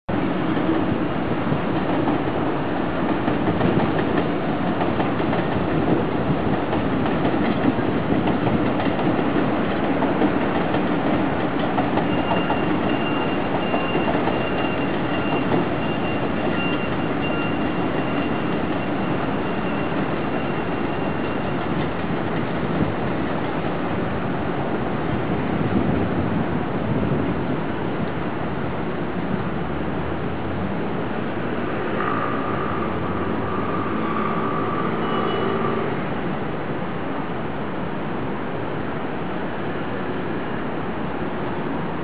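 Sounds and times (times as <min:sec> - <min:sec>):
train wheels rumbling: 0:00.1 - 0:42.0.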